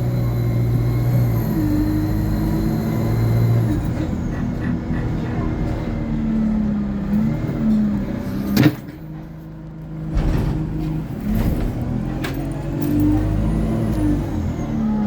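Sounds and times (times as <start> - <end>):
bus diesel engine humming: 0.0 - 15.0.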